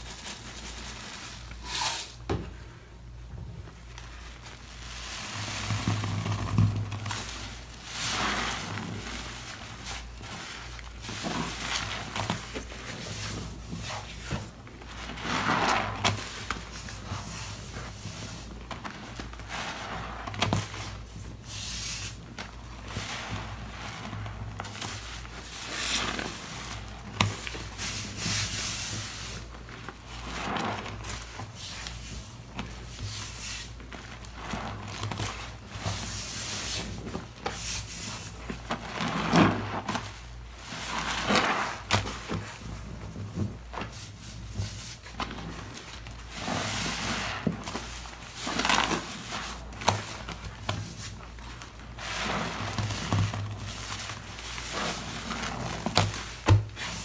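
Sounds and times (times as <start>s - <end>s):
wet sponge squelching: 4.0s - 57.0s.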